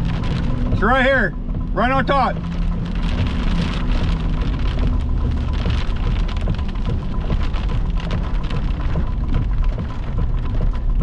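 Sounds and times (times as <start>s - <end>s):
heavy rain pounding: 0.0s - 11.0s.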